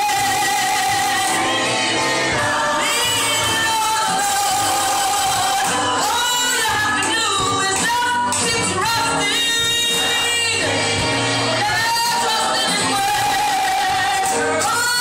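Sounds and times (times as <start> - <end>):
gospel choir singing: 0.0 - 8.0, 8.7 - 15.0.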